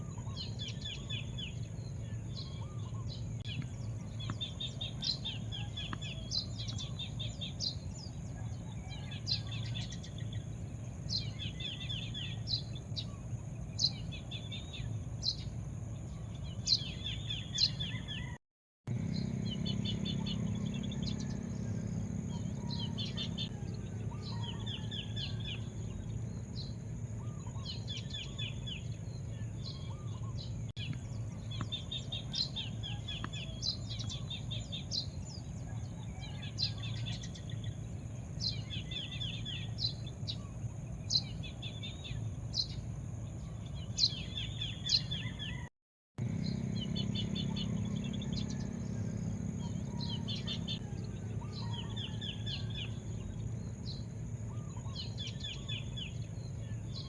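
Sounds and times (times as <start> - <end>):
low background rumble: 0.0 - 45.6, 46.2 - 57.0
small birds chirping: 0.0 - 57.0.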